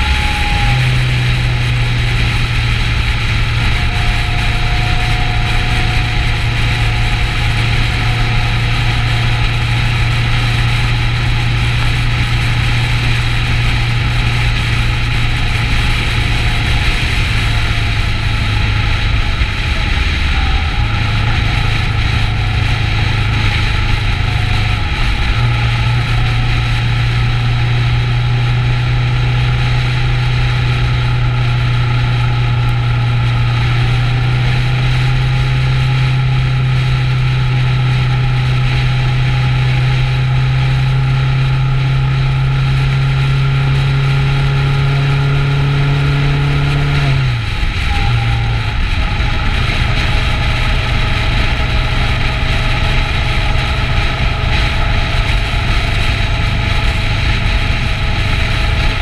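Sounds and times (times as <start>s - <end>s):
motorcycle engine cruising: 0.0s - 59.0s
wind rushing: 0.0s - 59.0s.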